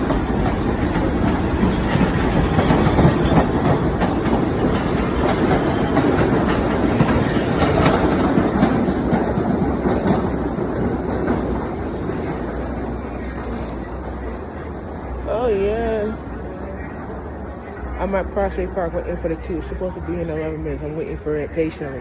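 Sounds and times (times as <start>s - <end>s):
subway train wheels clattering: 0.0s - 22.0s.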